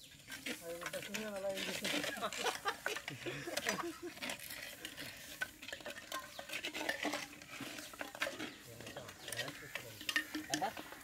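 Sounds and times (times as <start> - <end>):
ladle scraping and knocking pot: 0.0 - 11.0.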